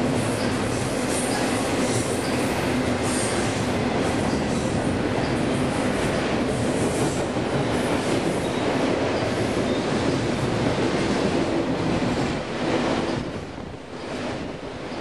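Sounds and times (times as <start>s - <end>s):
freight train wheels clacking: 0.0s - 15.0s.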